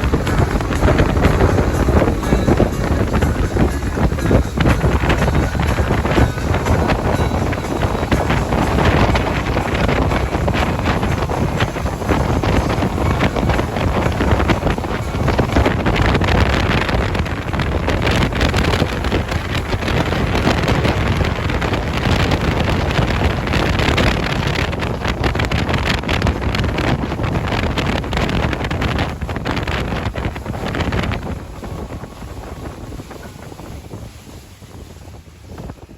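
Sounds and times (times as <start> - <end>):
motorboat engine: 0.0 - 35.9
water rushing: 0.0 - 35.9
wind buffeting microphone: 0.0 - 35.9.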